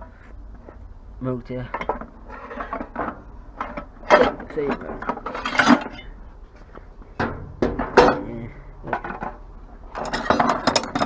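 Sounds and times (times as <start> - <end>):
scrap metal clinking: 1.8 - 11.0.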